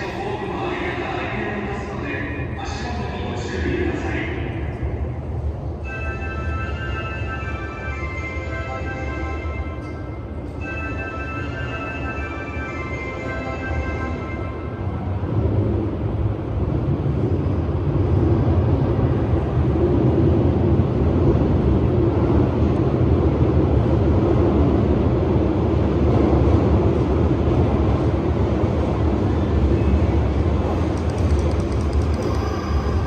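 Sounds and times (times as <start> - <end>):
electric train rumbling past: 0.0 - 33.0.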